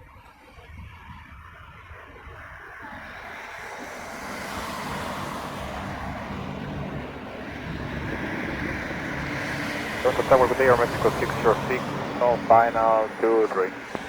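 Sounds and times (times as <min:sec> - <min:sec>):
jet engines rushing: 0:02.2 - 0:14.0.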